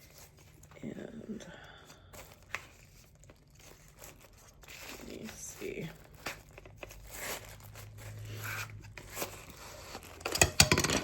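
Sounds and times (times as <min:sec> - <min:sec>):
plastic packaging rustling and tearing: 0:00.0 - 0:11.0.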